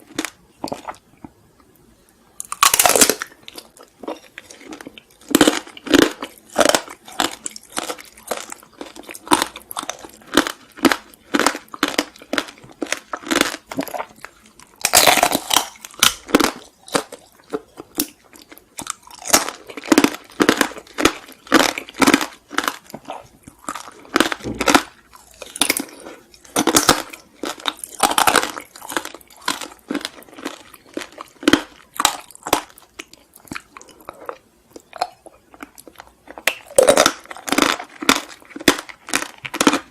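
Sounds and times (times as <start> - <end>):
crunchy chewing: 2.4 - 39.9.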